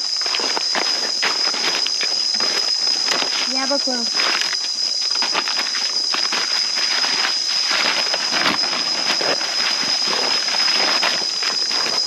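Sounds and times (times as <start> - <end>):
footsteps crunching dry leaves: 0.0 - 12.0
high-pitched insect drone: 0.0 - 12.0.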